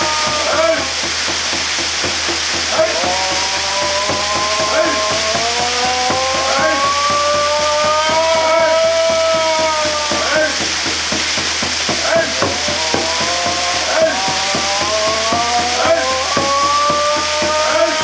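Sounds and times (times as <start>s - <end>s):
voices chanting: 0.0s - 18.0s
waterfall rushing: 0.0s - 18.0s.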